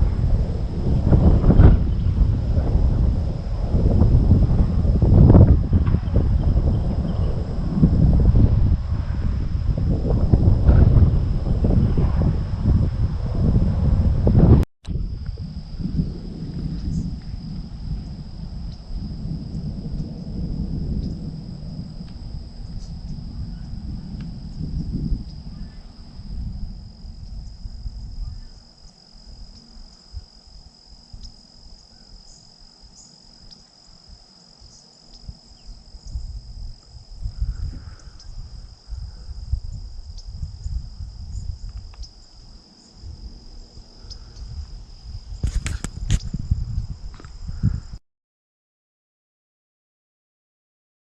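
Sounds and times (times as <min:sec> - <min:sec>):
insects singing: 0:00.0 - 0:11.7, 0:14.9 - 0:48.0
wind buffeting microphone: 0:00.0 - 0:48.0.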